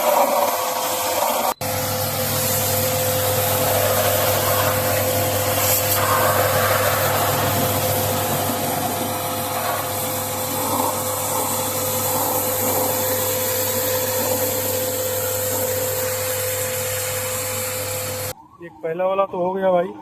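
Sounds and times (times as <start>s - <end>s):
pressure washer water jet hissing: 0.0s - 18.3s
pressure washer motor tone: 0.0s - 18.4s.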